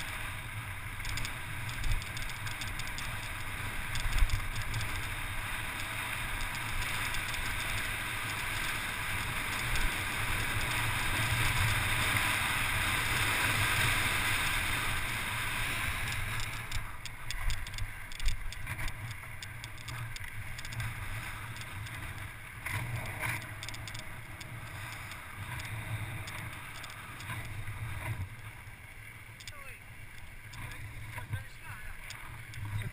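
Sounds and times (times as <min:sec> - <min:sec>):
motorcycle engine running: 0:00.0 - 0:27.7
gravel crunching and rattles: 0:00.0 - 0:32.9
wind and road noise: 0:00.0 - 0:32.9.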